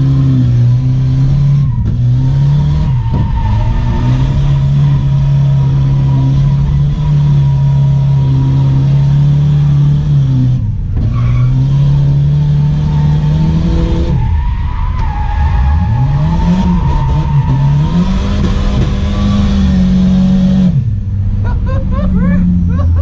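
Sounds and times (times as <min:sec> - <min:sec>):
car engine running hard: 0:00.0 - 0:23.0.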